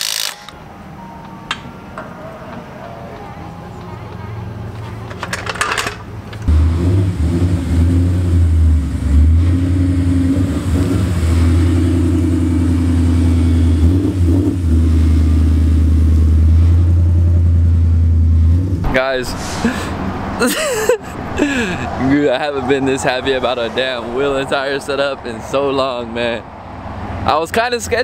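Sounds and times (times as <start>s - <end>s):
car engine starting and idling: 3.7s - 27.4s.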